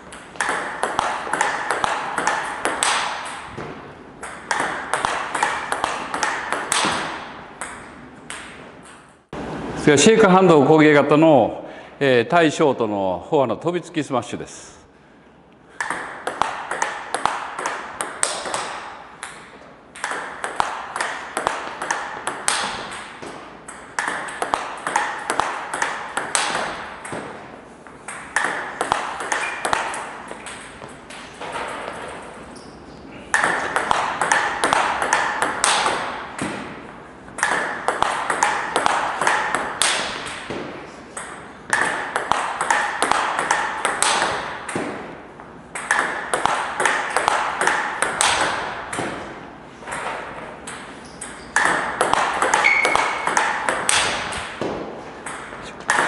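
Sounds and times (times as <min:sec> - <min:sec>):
ping pong ball hitting rackets: 0:00.0 - 0:09.4, 0:15.8 - 0:56.0
ball bouncing on table: 0:00.1 - 0:09.0, 0:15.8 - 0:27.4, 0:28.1 - 0:32.2, 0:33.3 - 0:45.1, 0:45.8 - 0:49.2, 0:49.9 - 0:56.0
ping pong smash hits: 0:00.1 - 0:09.0, 0:15.8 - 0:27.4, 0:28.1 - 0:32.1, 0:33.3 - 0:36.8, 0:37.4 - 0:45.2, 0:45.8 - 0:49.3, 0:49.9 - 0:56.0.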